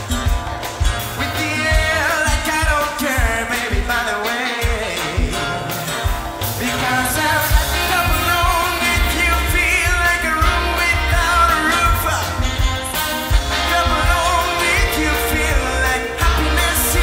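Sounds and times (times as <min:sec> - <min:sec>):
big band playing: 0:00.0 - 0:17.0
person singing: 0:01.0 - 0:17.0.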